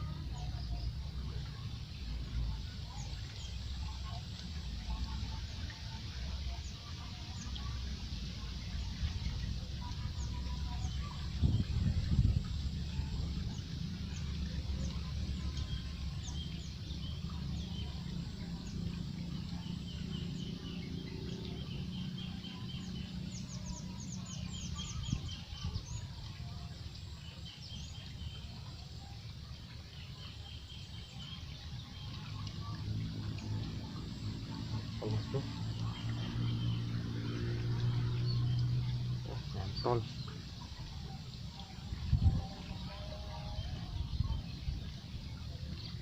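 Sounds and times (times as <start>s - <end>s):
steady low rumble: 0.0s - 29.6s, 30.2s - 42.8s
small birds chirping: 0.0s - 46.0s.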